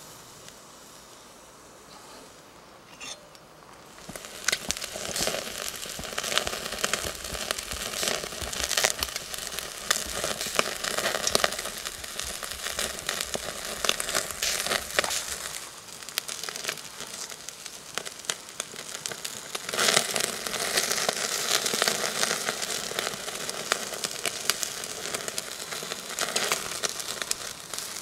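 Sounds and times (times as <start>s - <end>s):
meat sizzling on charcoal grill: 0.0s - 28.0s
sharp crackling pops: 0.0s - 28.0s.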